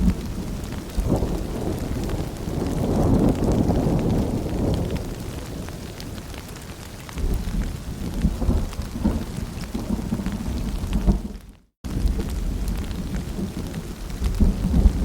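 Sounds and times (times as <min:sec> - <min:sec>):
rain falling and dripping: 0:00.0 - 0:15.0.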